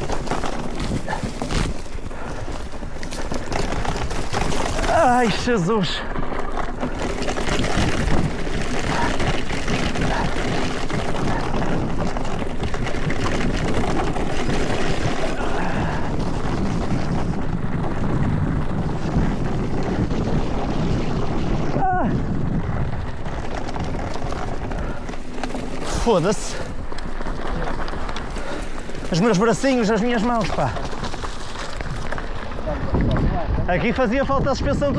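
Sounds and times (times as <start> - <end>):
bike rattling: 0.0 - 34.9
bike tyres rumbling over dirt: 0.0 - 34.9
wind rushing over microphone: 0.0 - 34.9.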